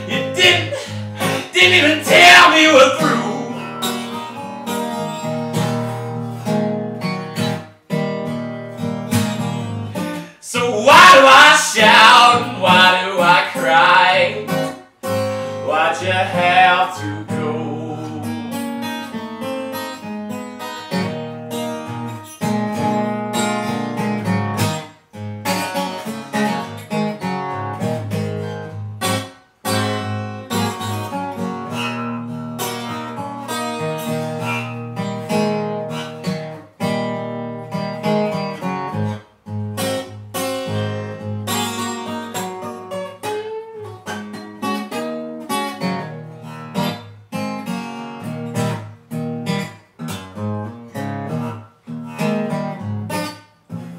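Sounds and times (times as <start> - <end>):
acoustic guitar blues: 0.0 - 53.9.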